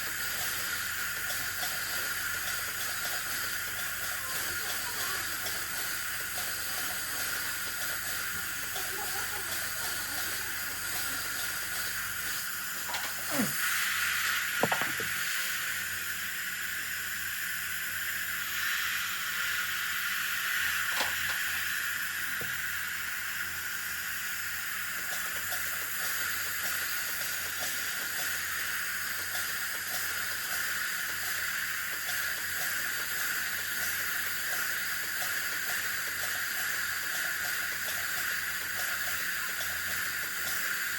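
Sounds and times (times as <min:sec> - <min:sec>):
dental equipment hissing: 0:00.0 - 0:40.9.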